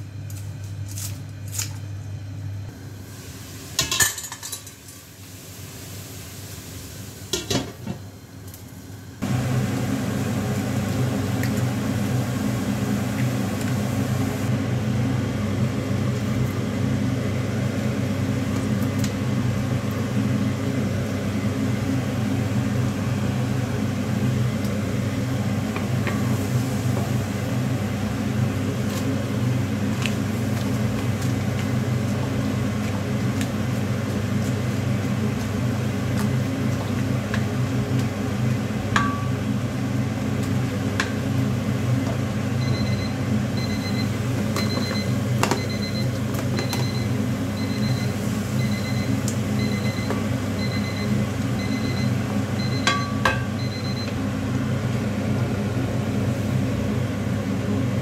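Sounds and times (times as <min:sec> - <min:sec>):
kitchen fan humming: 0:00.0 - 0:58.0.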